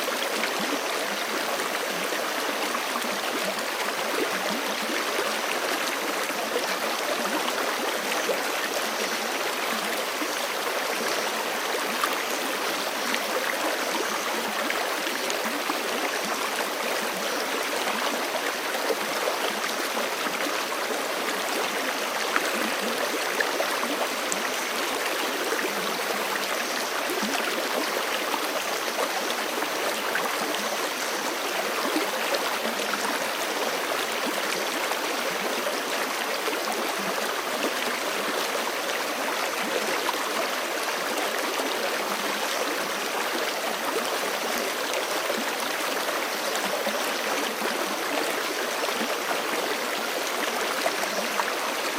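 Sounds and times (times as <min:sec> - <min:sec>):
creek babbling over rocks: 0:00.0 - 0:51.9.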